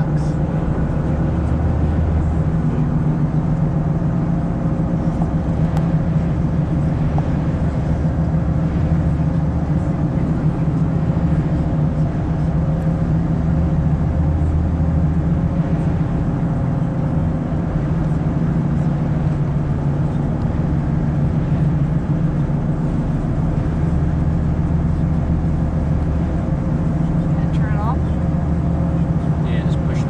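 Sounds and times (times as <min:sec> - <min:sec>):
car engine and road noise hum: 0:00.0 - 0:30.0.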